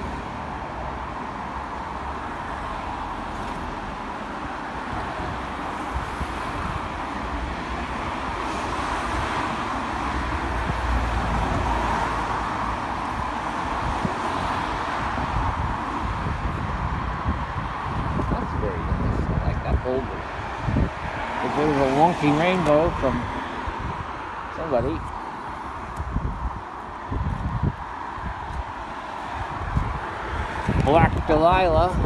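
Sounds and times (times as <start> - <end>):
road traffic tyre and engine noise: 0.0 - 32.0.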